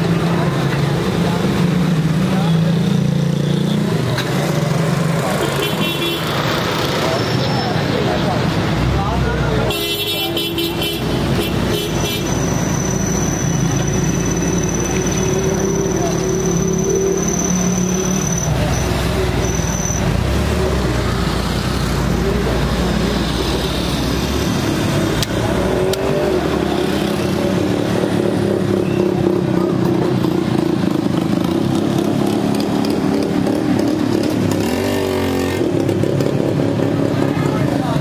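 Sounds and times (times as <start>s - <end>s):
low traffic hum: 0.0s - 38.0s
motorcycle and car engines: 0.0s - 38.0s.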